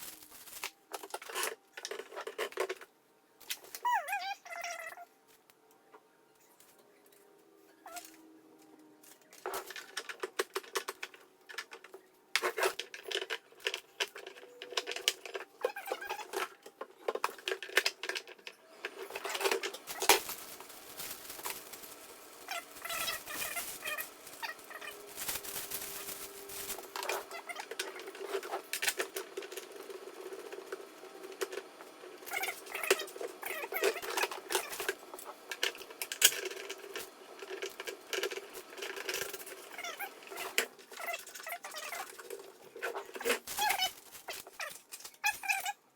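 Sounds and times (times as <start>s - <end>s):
plastic and metal parts rattling: 0.0s - 3.9s, 9.0s - 45.8s.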